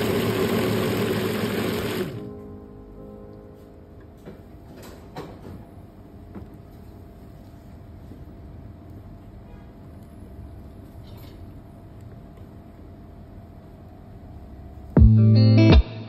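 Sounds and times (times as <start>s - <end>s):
low steady hum: 0.0s - 15.7s.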